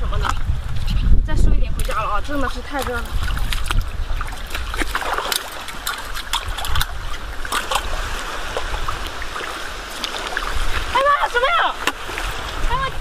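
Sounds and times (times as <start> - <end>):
rubber boots wading through water: 1.8 - 13.0.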